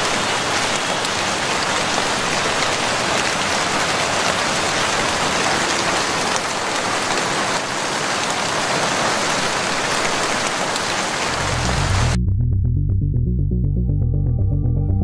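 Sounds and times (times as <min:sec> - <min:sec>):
heavy rain hissing: 0:00.0 - 0:12.2.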